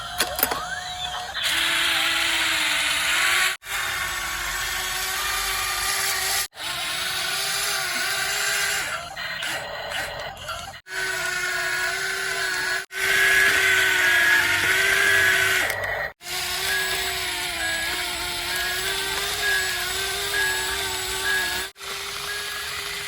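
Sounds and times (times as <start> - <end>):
toy electric motors whining: 0.0 - 23.0.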